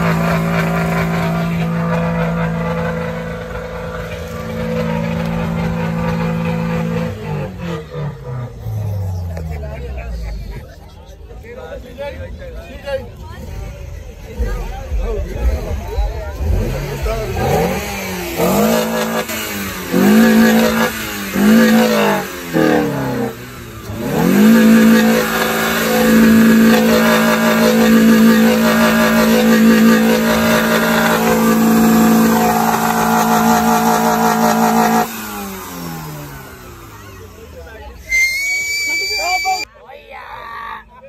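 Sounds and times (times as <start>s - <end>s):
car engine revving: 0.0s - 10.7s, 12.8s - 39.0s.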